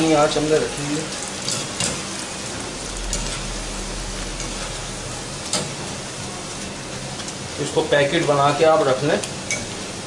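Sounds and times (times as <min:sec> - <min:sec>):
dough deep-frying in hot oil: 0:00.0 - 0:10.0.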